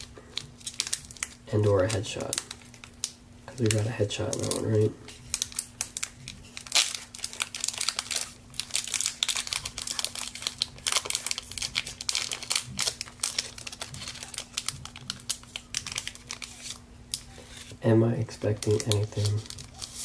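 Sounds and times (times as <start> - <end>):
wrapper crackling and tearing: 0.0 - 17.6, 18.3 - 20.0.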